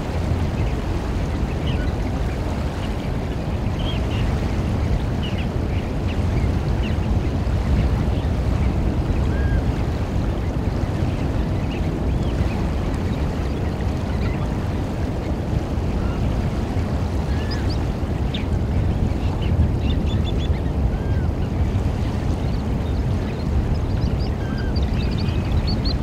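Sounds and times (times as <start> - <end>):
waves on shore: 0.0 - 26.0
wind: 0.0 - 26.0
bird calls: 0.4 - 26.0.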